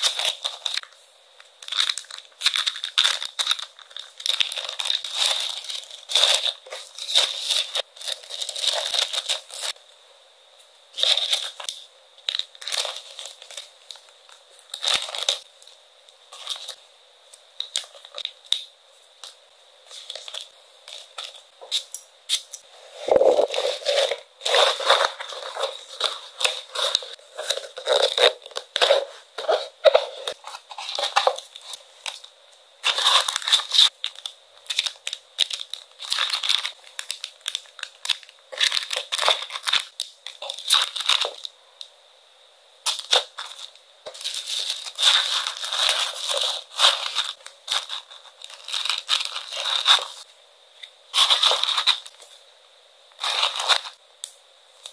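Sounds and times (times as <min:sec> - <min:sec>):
packaging crinkling and rustling: 0:00.0 - 0:09.8, 0:11.0 - 0:16.8, 0:17.6 - 0:21.8, 0:23.0 - 0:41.5, 0:42.8 - 0:50.3, 0:51.2 - 0:52.4, 0:53.1 - 0:54.0.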